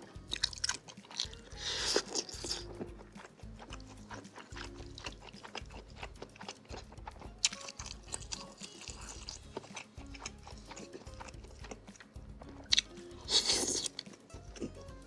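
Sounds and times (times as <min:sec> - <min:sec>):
background music with bass line: 0:00.0 - 0:15.0
close chewing: 0:00.0 - 0:15.0
wet mouth clicks: 0:00.3 - 0:14.8.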